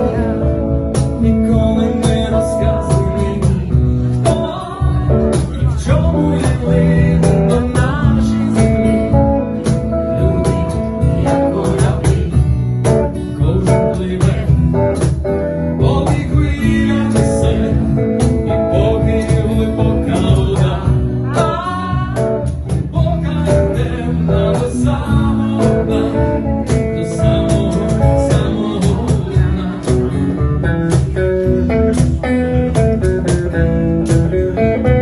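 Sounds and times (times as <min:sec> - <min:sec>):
person singing: 0:00.0 - 0:32.8
drums: 0:00.0 - 0:35.0
guitar: 0:00.0 - 0:35.0.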